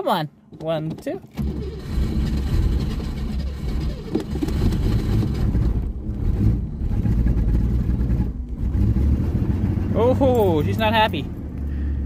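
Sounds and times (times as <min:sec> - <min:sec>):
car engine running rough: 0:01.4 - 0:12.0.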